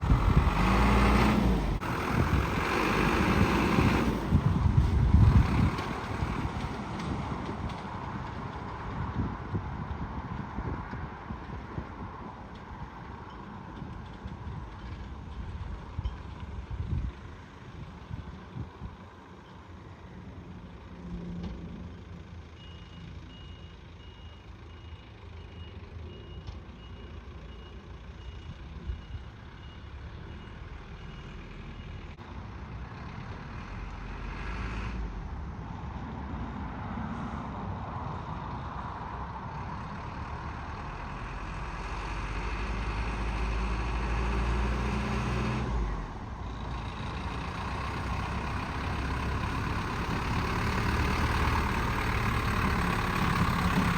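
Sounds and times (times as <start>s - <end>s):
diesel engine running: 0.0s - 35.8s, 38.3s - 53.9s.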